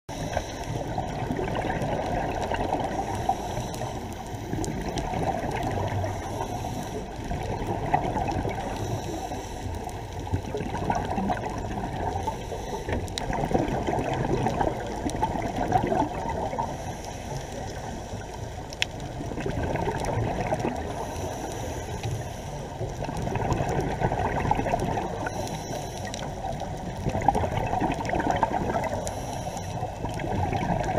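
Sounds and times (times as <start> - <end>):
muffled underwater rush: 0.1 - 30.9.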